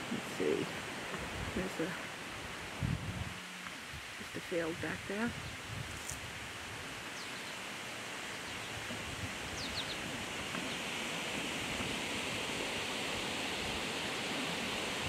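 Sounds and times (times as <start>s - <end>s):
outdoor hiss among trees: 0.0s - 15.0s.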